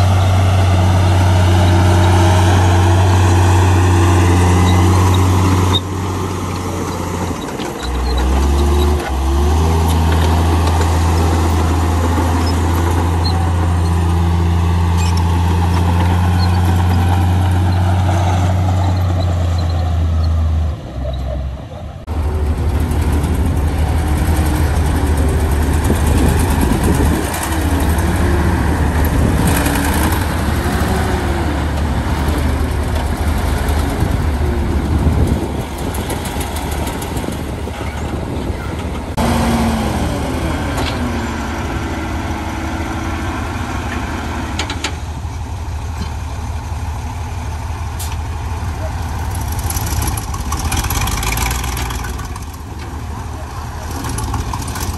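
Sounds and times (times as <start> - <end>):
bulldozer diesel engine running: 0.0 - 54.9
dump truck diesel engine pulsing: 0.0 - 54.9.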